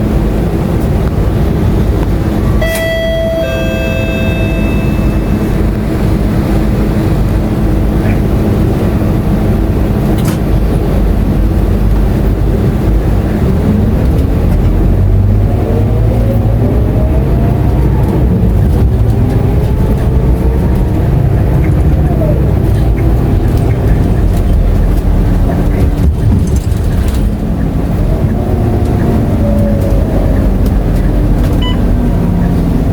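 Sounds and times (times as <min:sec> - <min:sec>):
bus diesel engine accelerating: 0:00.0 - 0:32.9.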